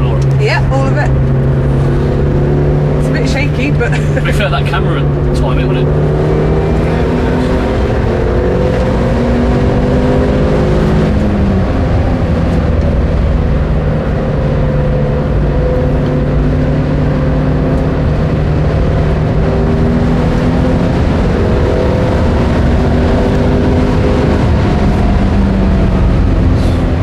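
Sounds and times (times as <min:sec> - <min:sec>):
car engine accelerating hard: 0:00.0 - 0:27.0
road and wind noise: 0:00.0 - 0:27.0.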